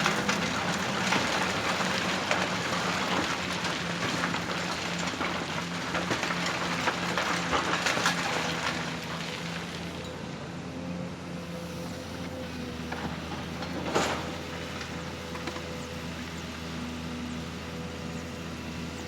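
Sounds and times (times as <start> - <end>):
construction machinery running: 0.0 - 19.0.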